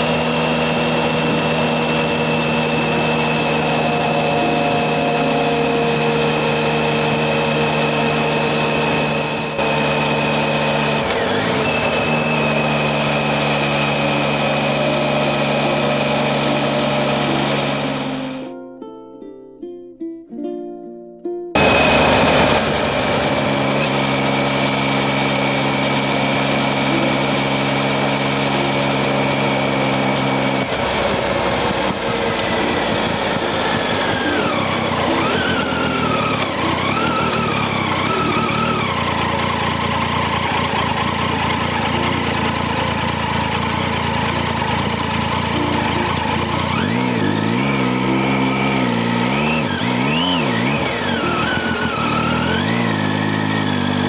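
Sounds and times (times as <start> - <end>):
motorcycle engine running: 0.0 - 18.5, 21.6 - 54.0.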